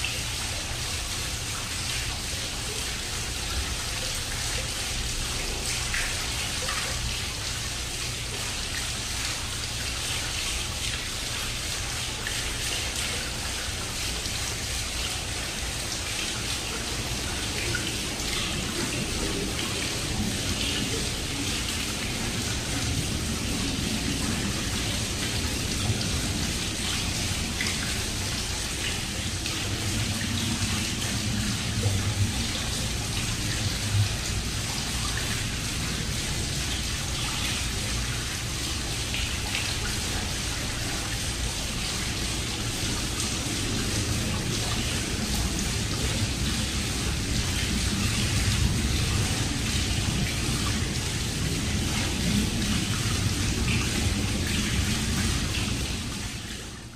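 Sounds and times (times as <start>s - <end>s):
water fountain splashing: 0.0s - 56.9s.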